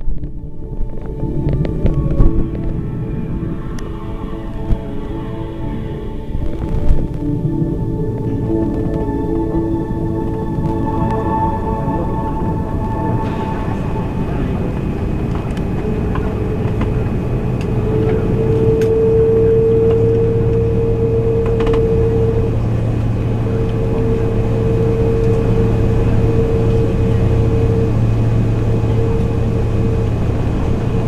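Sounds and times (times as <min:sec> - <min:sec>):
jet engines humming in cabin: 0:00.0 - 0:31.0.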